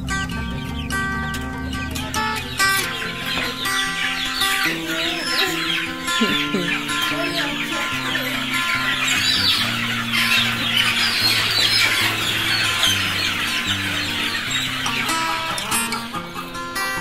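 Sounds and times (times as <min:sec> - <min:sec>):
acoustic guitar music: 0:00.0 - 0:17.0
young chickens clucking and chirping: 0:00.0 - 0:17.0.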